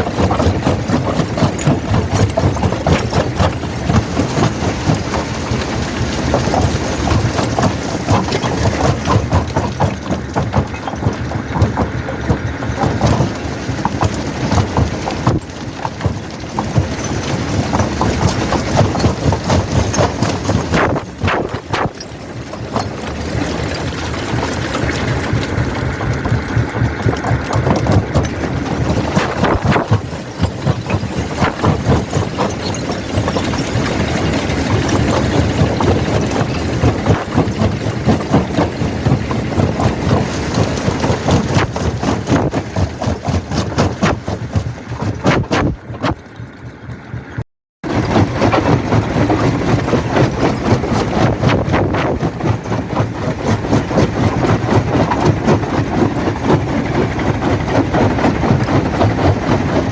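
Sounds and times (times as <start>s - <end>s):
rock crusher machine drone: 0.0s - 59.9s.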